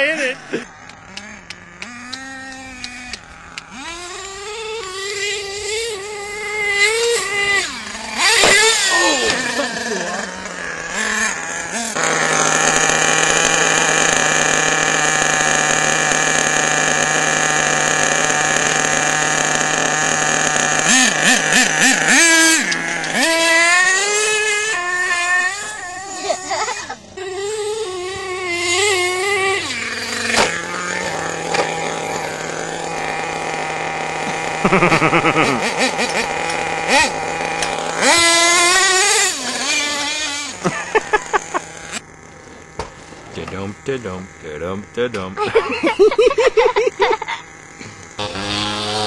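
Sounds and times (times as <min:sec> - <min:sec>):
rc truck engine revving: 0:00.0 - 0:49.0.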